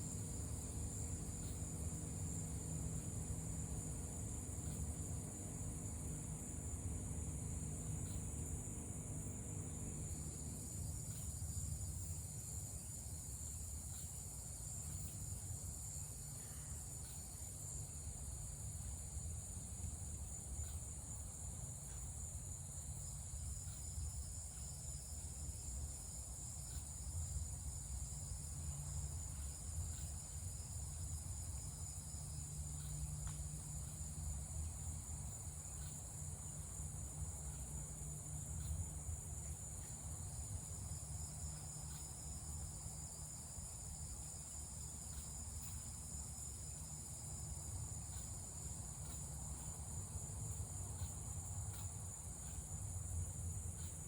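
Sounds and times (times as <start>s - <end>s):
crickets and cicadas chirping: 0.0s - 54.0s.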